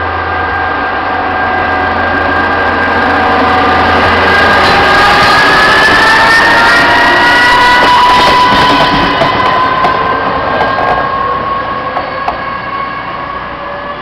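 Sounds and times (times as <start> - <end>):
diesel railcar engine whine: 0.0 - 14.0.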